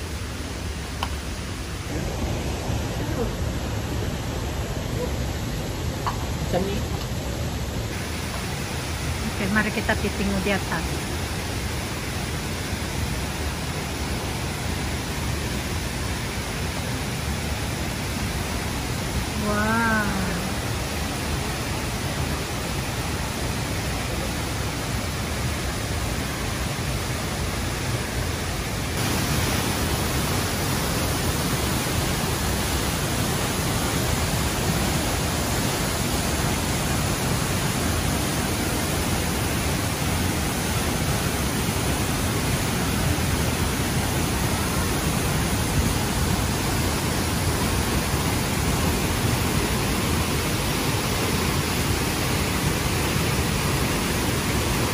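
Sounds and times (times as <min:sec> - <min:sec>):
river water rushing at waterfall: 0:00.0 - 0:54.9.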